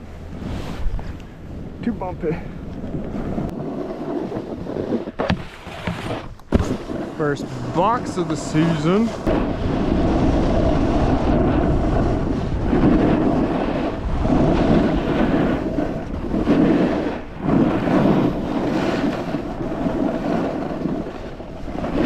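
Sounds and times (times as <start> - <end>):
snowboard scraping over snow: 0.0 - 22.0
wind buffeting microphone: 0.0 - 22.0.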